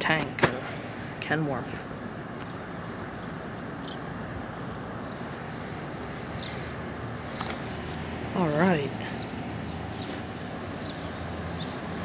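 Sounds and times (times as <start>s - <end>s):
birds chirping: 0.0s - 12.0s
truck engine rumbling: 0.0s - 12.0s.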